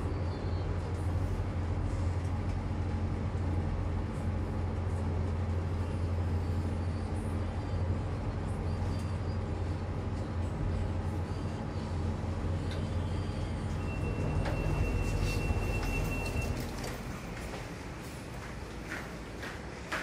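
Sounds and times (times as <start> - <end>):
lift hum and rumble: 0.0 - 20.0.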